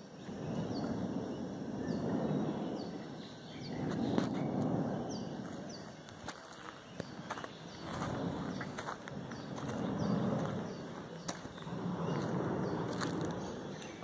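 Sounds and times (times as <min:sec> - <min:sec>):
bird chirping: 0:00.0 - 0:14.0
low volcanic rumbling: 0:00.0 - 0:14.0.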